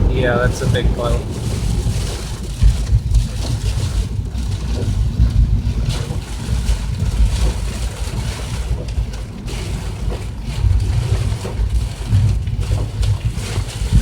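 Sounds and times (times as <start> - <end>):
engine and tyres rumbling: 0.0 - 14.0
hiss of water and rain: 0.0 - 14.0.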